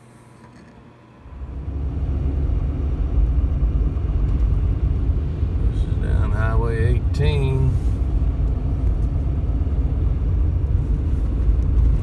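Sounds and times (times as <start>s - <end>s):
car driving on snowy road: 1.3s - 12.0s.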